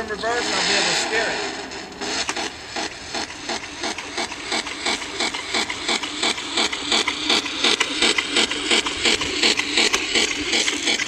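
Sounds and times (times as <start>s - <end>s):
model car motor clattering: 1.7s - 11.0s.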